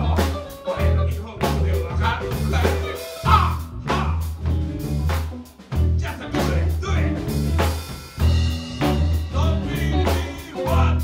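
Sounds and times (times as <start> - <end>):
bass guitar: 0.0 - 11.0
drum kit: 0.0 - 11.0
electric guitars: 0.0 - 11.0.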